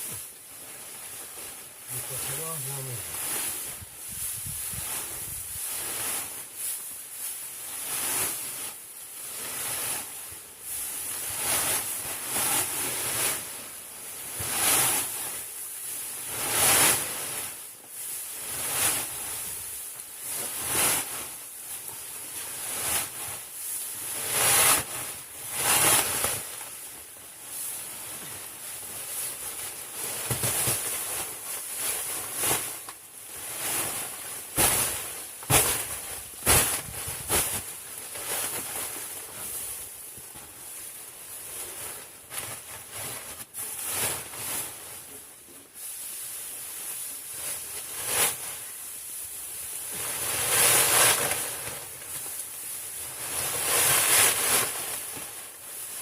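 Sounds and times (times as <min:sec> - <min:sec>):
rustling and scraping: 0:00.0 - 0:56.0
steady high hiss: 0:00.0 - 0:56.0.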